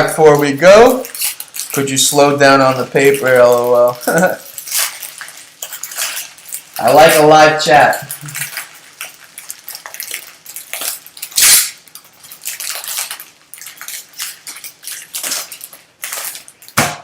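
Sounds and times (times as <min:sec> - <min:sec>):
foil wrapper crinkling and tearing: 0:00.0 - 0:16.8.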